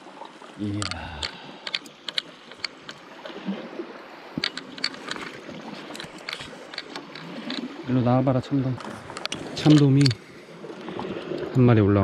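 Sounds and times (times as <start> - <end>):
water washing against rocks: 0.0 - 11.8.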